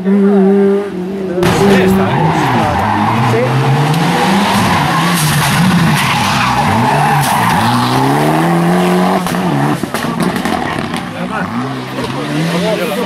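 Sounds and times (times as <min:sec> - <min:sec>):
rally car engine revving: 0:00.0 - 0:13.0
tyres skidding on tarmac: 0:01.4 - 0:13.0.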